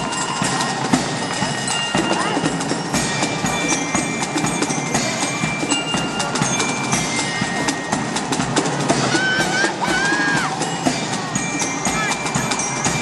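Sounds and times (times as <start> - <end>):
bell-like tones: 0.0 - 13.0
drums and percussion clicks: 0.0 - 13.0
marching band playing: 0.0 - 13.0.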